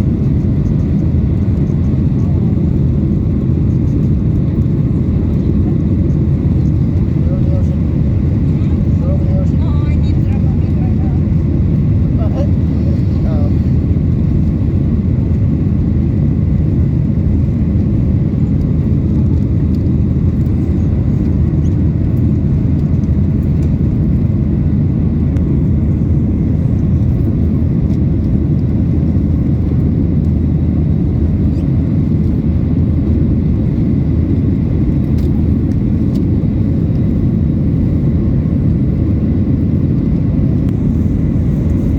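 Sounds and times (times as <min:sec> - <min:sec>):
airplane cabin engine roar: 0:00.0 - 0:41.9.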